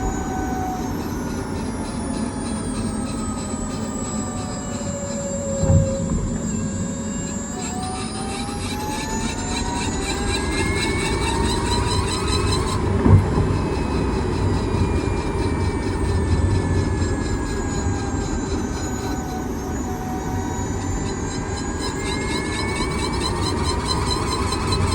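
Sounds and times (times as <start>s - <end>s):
high whining tones: 0.0s - 24.9s.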